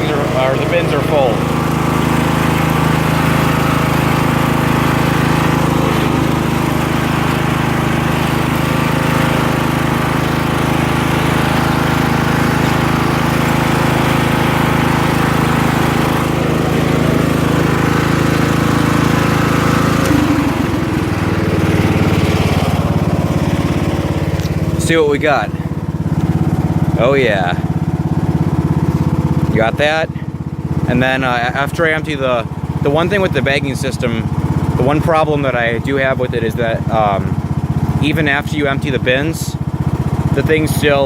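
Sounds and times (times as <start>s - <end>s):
lawn tractor engine running: 0.0s - 41.0s
mower blades chopping leaves: 0.0s - 41.0s.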